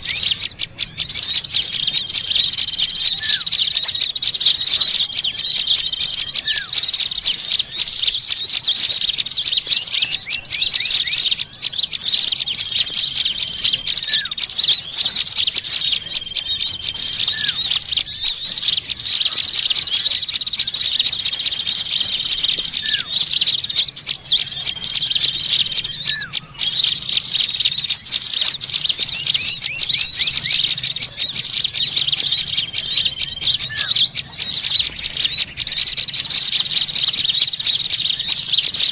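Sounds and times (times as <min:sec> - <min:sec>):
small birds chattering and chirping: 0:00.0 - 0:38.9.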